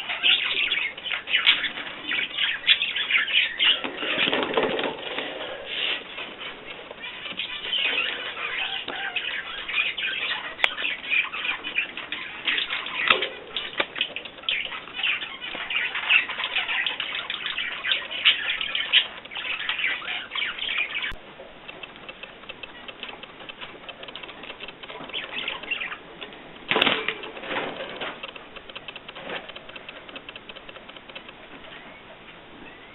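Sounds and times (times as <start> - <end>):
cage birds chirping: 0.0 - 32.9.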